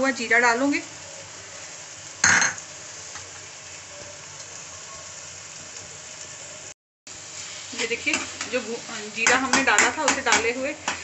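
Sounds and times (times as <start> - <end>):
food frying hiss: 0.0 - 11.0.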